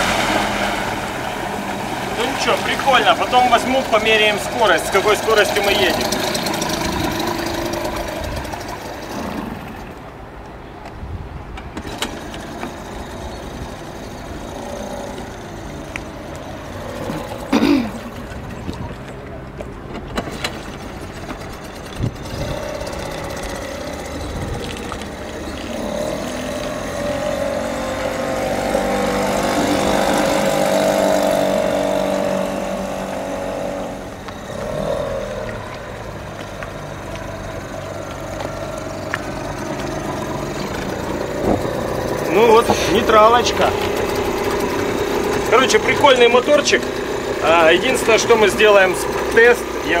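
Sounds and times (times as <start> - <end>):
outboard motor running: 0.0 - 10.4, 11.7 - 50.0.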